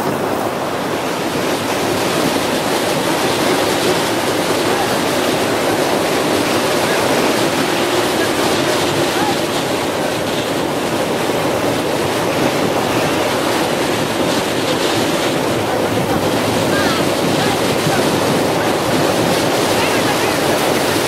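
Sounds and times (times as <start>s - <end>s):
sea surf breaking on shore: 0.0s - 21.0s
wind noise on microphone: 0.0s - 21.0s.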